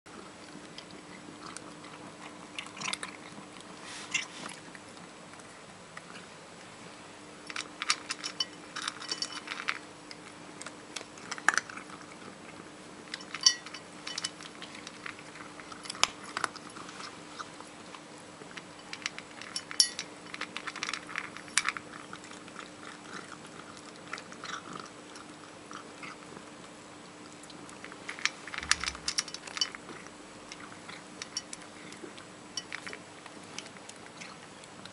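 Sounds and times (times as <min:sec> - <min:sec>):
cat crunching food from metal bowl: 0:00.1 - 0:05.0, 0:07.4 - 0:26.5, 0:27.2 - 0:34.9
steady low hum: 0:00.1 - 0:34.9.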